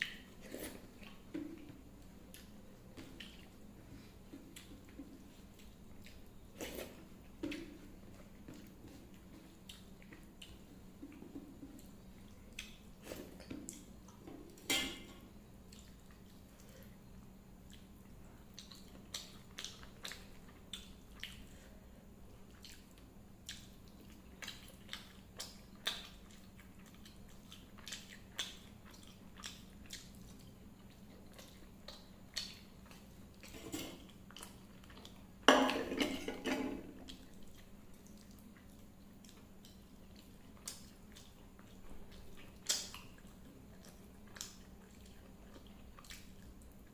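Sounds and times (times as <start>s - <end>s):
wet chewing and mouth smacks: 0.0s - 3.7s, 7.4s - 14.6s, 15.7s - 16.7s, 17.6s - 21.6s, 22.5s - 35.4s, 37.0s - 46.9s.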